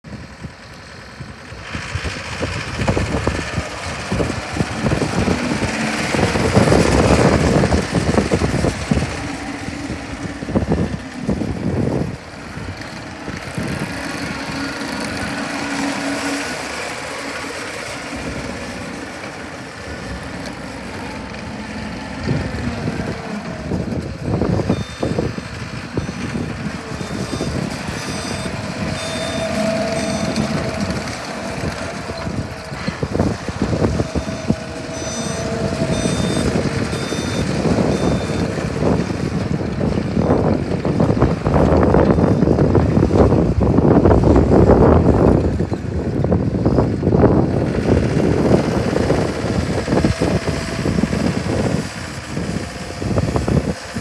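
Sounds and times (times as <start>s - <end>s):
diesel engine running: 0.1s - 54.0s.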